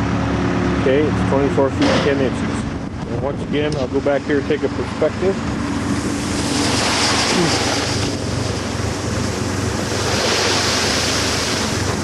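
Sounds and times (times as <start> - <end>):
faint low engine hum: 0.0 - 12.0
wind buffeting microphone: 2.2 - 12.0.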